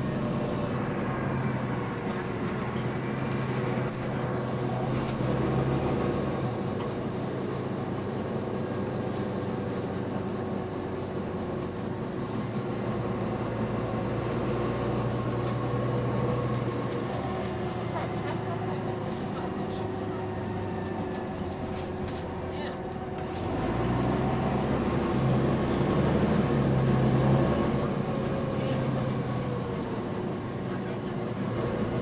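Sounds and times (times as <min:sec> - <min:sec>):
bus engine droning: 0:00.0 - 0:32.0.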